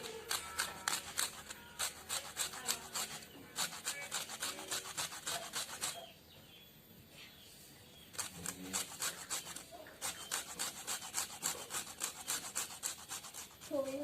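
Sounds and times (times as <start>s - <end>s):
lemon rasping on grater: 0.0s - 6.1s, 8.1s - 14.0s.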